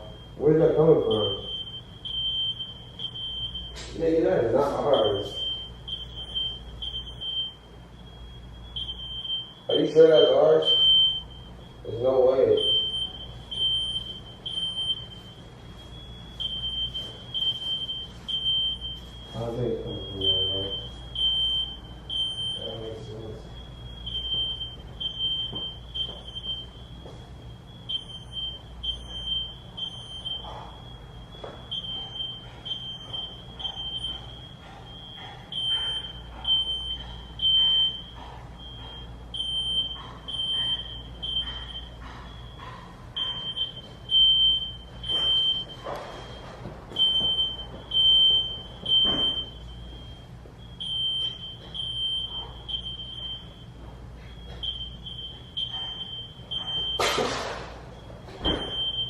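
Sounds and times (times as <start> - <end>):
smoke alarm beeping: 0.0 - 59.0.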